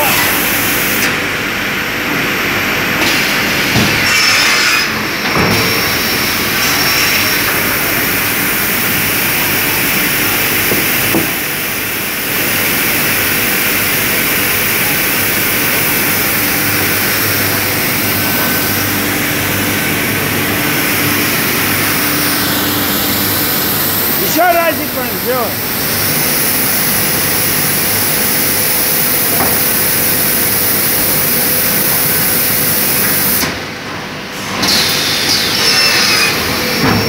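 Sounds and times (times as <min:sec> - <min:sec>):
pneumatic saw running: 0:03.0 - 0:05.0, 0:05.6 - 0:33.5, 0:34.5 - 0:37.0.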